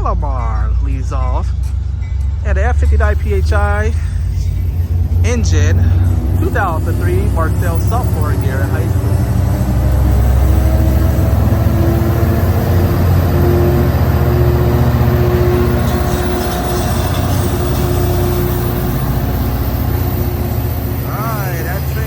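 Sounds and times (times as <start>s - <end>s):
diesel locomotive drone: 0.0s - 22.0s.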